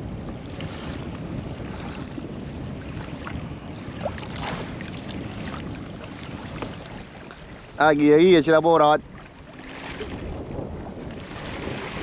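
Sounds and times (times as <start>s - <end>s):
water moving around kayak: 0.0s - 12.0s
wind noise on microphone: 0.0s - 12.0s.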